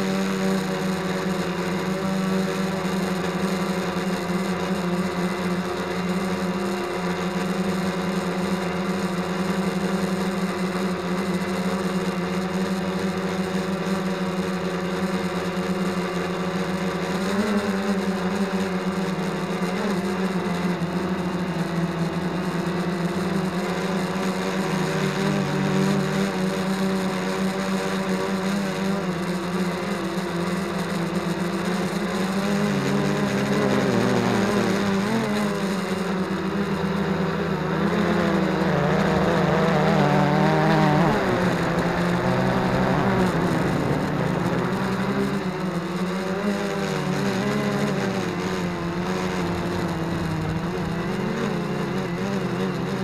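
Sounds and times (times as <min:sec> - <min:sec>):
model aircraft propellers buzzing: 0:00.0 - 0:53.0.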